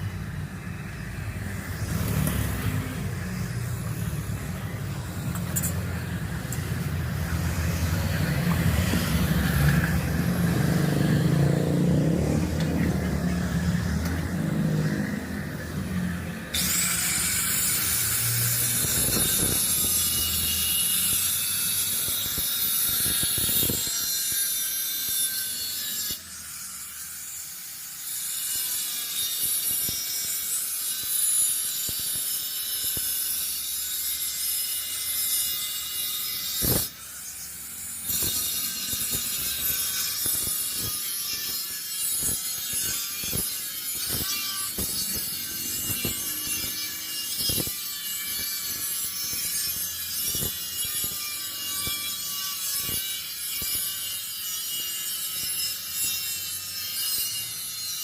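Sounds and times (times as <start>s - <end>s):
power grinder on sheet metal: 0.0s - 58.0s.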